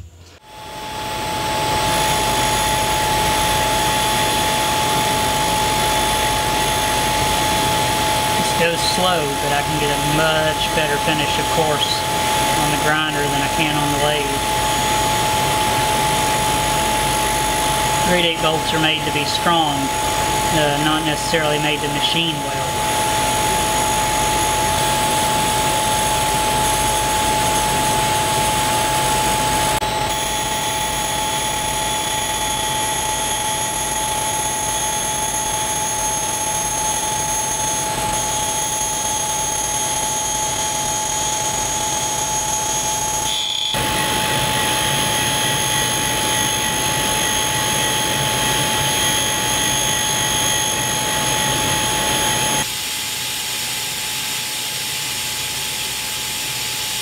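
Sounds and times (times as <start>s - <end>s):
grinder high whine: 0.0s - 52.7s.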